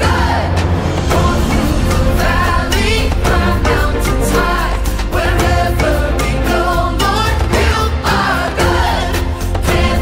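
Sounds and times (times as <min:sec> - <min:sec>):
worship pop song: 0:00.0 - 0:10.0.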